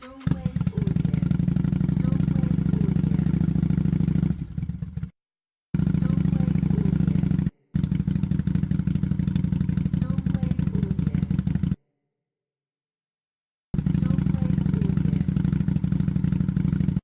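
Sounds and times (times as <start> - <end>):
motorcycle engine running steadily: 0.0 - 5.2, 5.8 - 11.8, 13.8 - 17.0.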